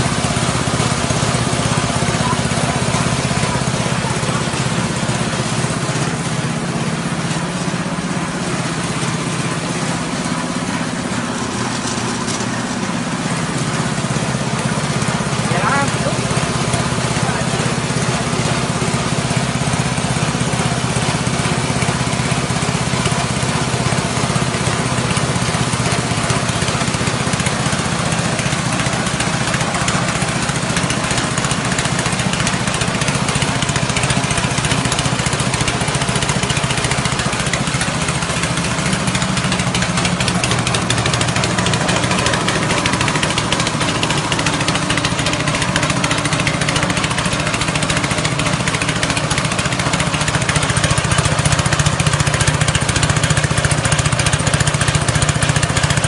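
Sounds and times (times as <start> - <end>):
grinding machine noise: 0.0 - 56.0
small petrol engine running: 0.0 - 56.0.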